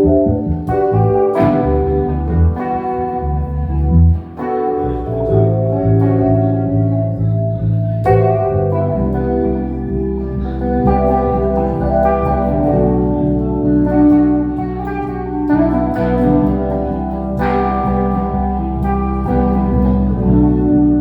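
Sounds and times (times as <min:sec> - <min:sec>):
band playing instrumental: 0:00.0 - 0:21.0.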